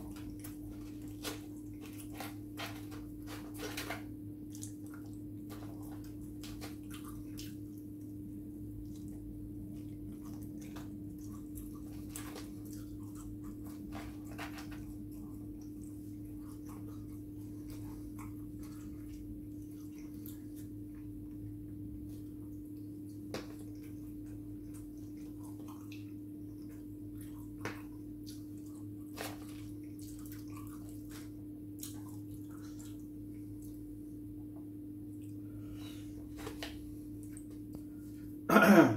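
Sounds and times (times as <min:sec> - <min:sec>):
chewing noises: 0:00.0 - 0:34.0
steady low hum: 0:00.0 - 0:38.9.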